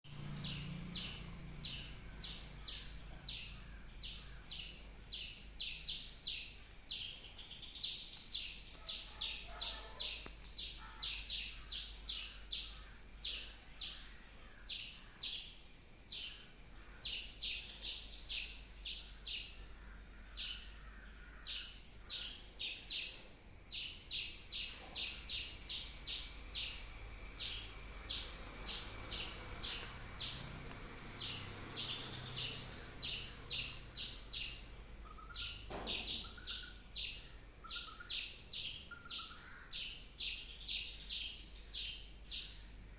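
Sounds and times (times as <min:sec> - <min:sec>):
squirrel chirping: 0:00.1 - 0:16.4, 0:20.3 - 0:42.6.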